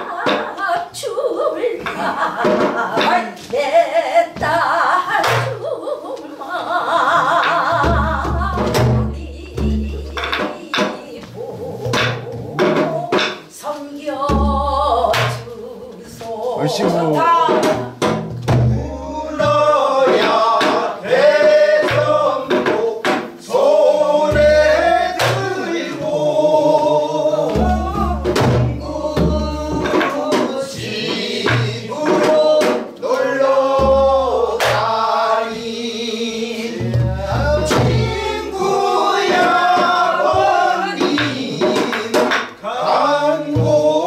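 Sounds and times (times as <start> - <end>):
chorus singing folk song: 0.0 - 44.0
drum strokes: 1.8 - 5.6, 6.8 - 15.7, 16.6 - 44.0.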